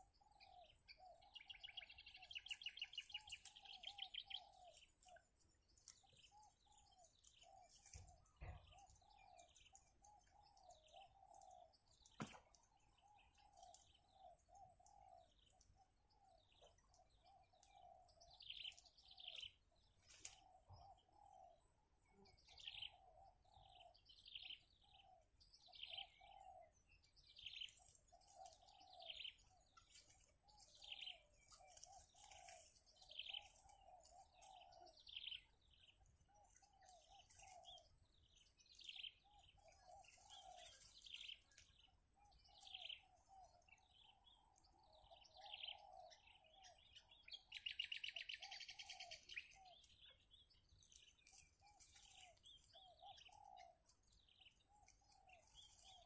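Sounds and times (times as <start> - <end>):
faint bird chirps: 0.0 - 56.0.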